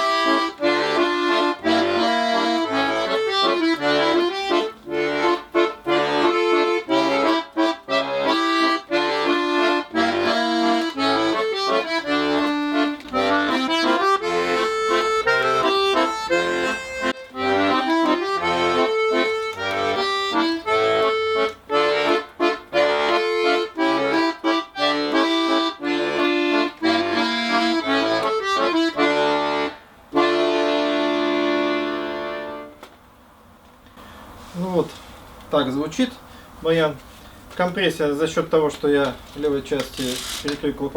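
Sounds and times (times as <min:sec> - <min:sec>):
button accordion playing: 0:00.0 - 0:32.9.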